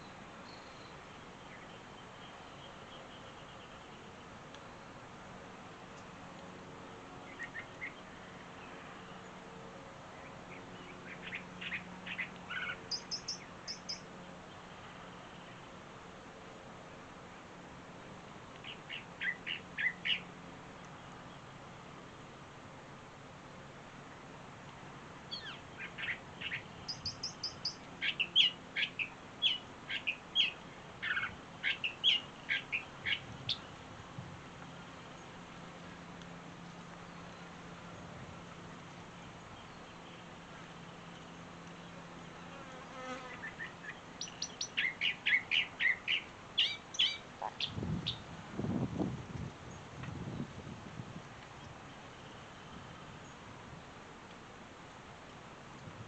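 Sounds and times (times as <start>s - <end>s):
songbirds chirping: 0.0s - 5.2s, 5.8s - 22.2s, 23.5s - 48.3s, 51.3s - 53.5s.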